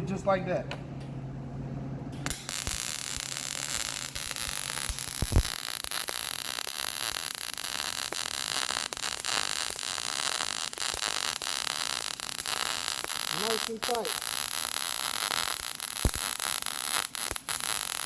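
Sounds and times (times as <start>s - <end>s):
welder humming: 2.1s - 18.0s
welding arc crackling: 2.2s - 18.0s.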